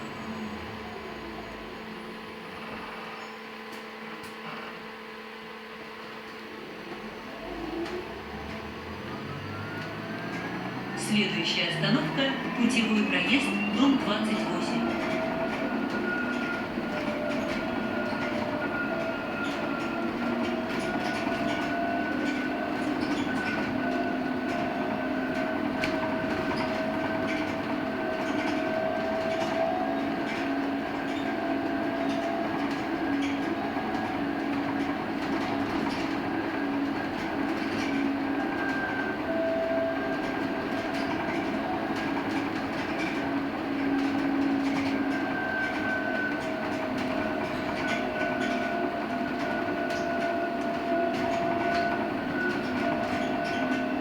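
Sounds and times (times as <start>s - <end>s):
road and tyre noise: 6.4s - 54.0s.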